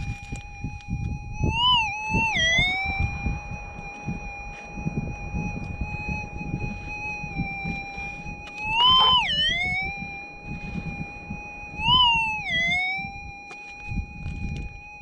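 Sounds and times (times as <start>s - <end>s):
metal detector hum rising in pitch: 0.0s - 15.0s.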